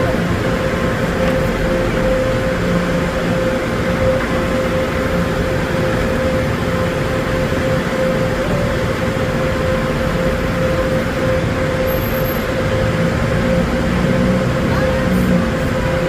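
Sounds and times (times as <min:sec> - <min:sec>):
machine whine: 0:00.0 - 0:16.0.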